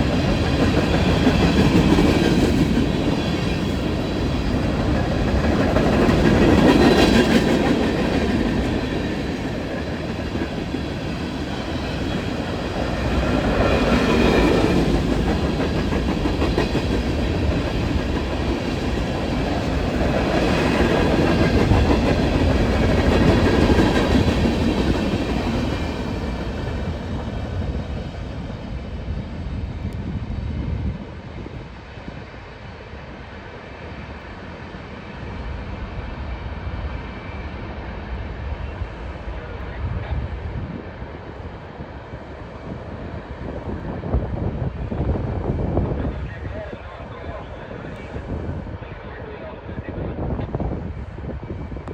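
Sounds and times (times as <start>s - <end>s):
freight train rolling past: 0.0s - 51.9s.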